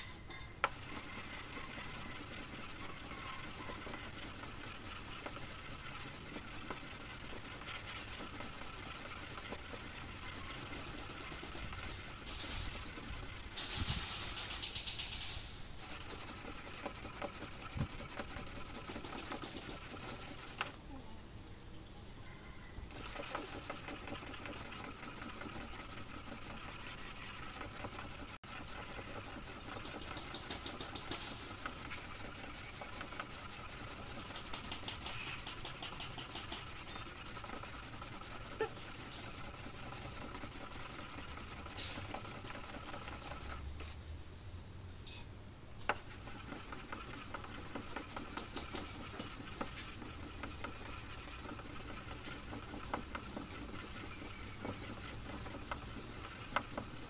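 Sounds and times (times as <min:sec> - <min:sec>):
sandpaper rasping: 0:00.6 - 0:20.8, 0:22.9 - 0:43.6, 0:45.8 - 0:57.0.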